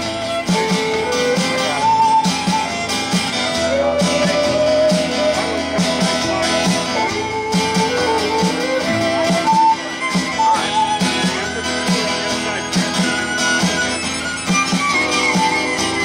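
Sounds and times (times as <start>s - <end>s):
fiddle melody: 0.0s - 16.0s
rhythm section beat: 0.0s - 16.0s
steel guitar: 0.0s - 16.0s.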